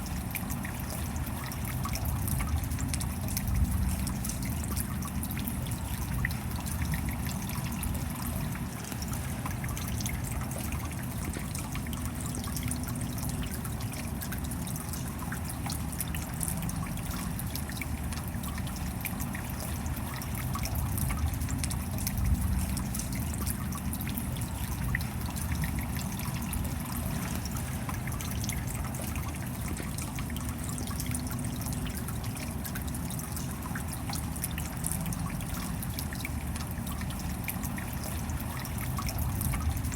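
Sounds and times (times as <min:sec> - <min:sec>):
steady rain: 0:00.0 - 0:39.9
water trickling and dripping: 0:00.0 - 0:39.9.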